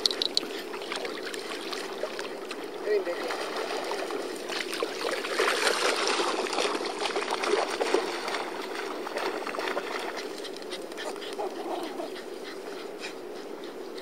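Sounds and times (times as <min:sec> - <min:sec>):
water lapping at shoreline: 0:00.0 - 0:14.0.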